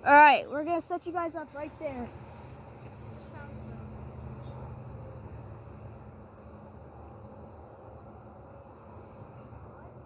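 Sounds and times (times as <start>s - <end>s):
insect chorus trilling: 0.0s - 10.0s.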